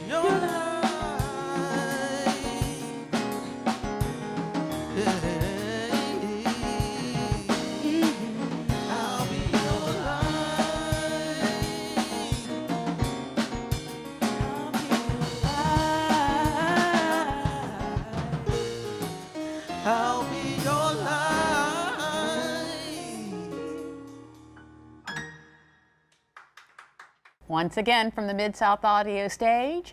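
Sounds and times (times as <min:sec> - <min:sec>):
live soul band: 0:00.0 - 0:24.5
drum kit: 0:00.0 - 0:24.6.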